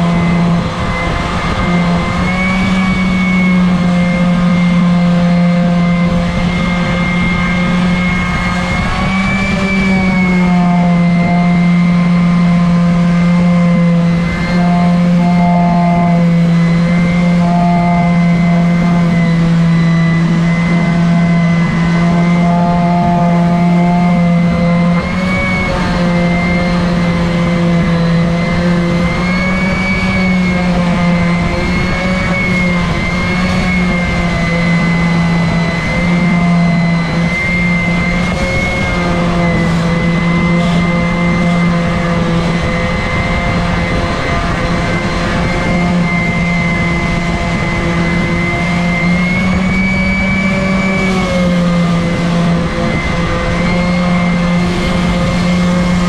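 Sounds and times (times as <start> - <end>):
orbital sander humming: 0.0 - 56.0.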